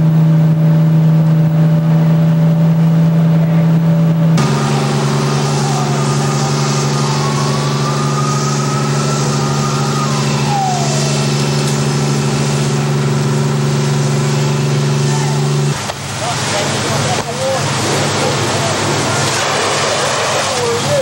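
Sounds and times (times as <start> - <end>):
engine droning at high speed: 0.0 - 21.0.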